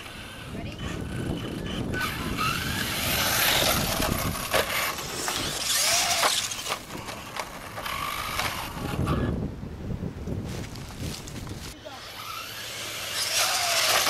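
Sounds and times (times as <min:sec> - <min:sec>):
rc cars landing on dirt: 0:00.0 - 0:09.3, 0:10.3 - 0:14.0
electric rc car motors whining: 0:00.0 - 0:09.4, 0:10.6 - 0:14.0.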